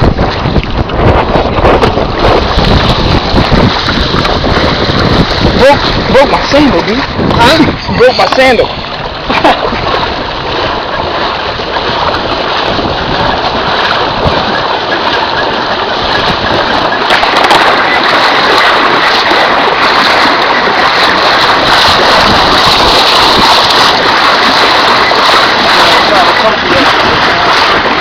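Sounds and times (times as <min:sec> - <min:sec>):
floodwater rushing and sloshing: 0:00.0 - 0:28.0.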